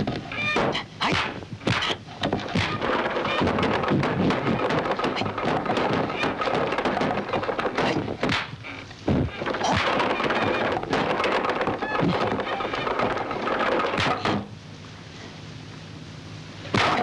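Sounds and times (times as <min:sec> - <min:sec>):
kicks against wooden poles: 0:00.0 - 0:14.5, 0:16.7 - 0:17.0
feet landing on wooden stools: 0:00.6 - 0:14.4.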